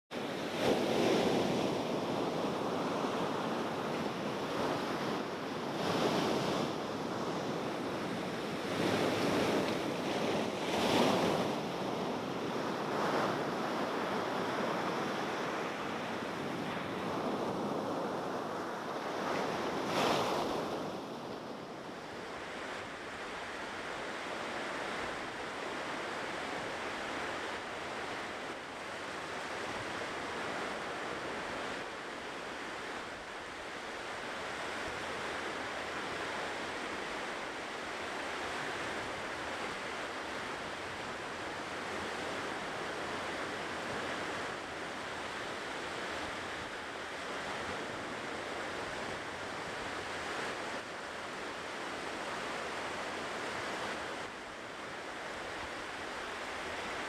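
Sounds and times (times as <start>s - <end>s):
ocean waves breaking on shore: 0.1s - 57.0s.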